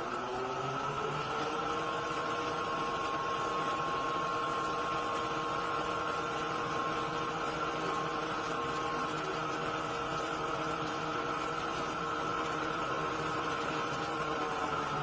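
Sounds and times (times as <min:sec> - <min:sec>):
cnc machine whining: 0:00.0 - 0:15.0.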